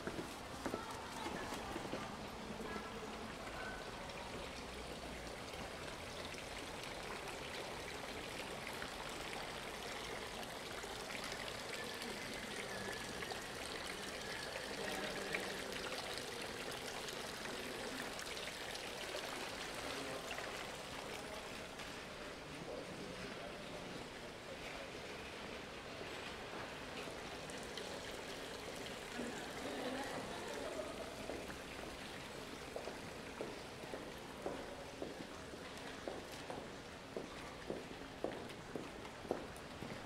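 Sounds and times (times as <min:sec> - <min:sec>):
running water: 0:00.0 - 0:40.0.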